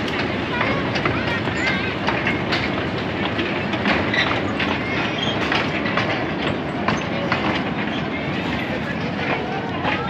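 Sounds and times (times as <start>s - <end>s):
high wheel squeaks: 0.0s - 2.8s, 3.4s - 10.0s
train wheels clicking over rail joints: 0.0s - 10.0s.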